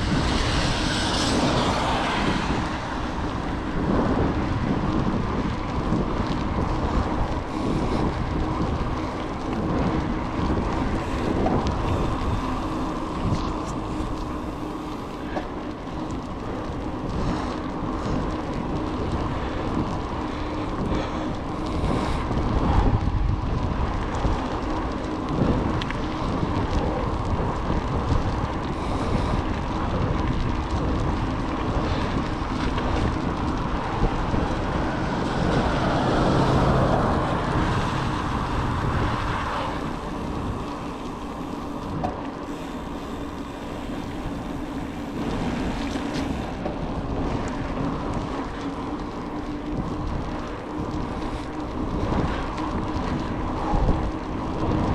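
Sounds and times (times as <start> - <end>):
road and vehicle noise: 0.0 - 54.9
wind rushing over microphone: 0.0 - 54.9.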